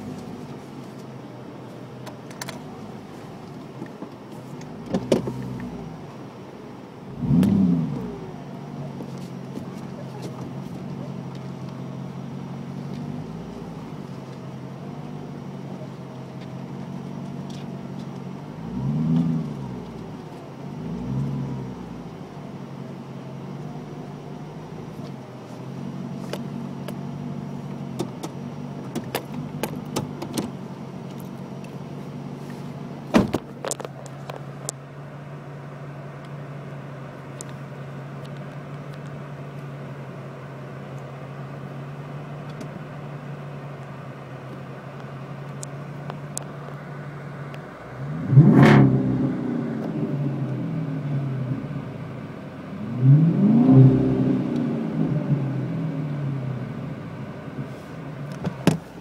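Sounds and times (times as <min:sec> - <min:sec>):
car engine idling: 0:00.0 - 0:59.0
engine throttle blips: 0:00.0 - 0:59.0.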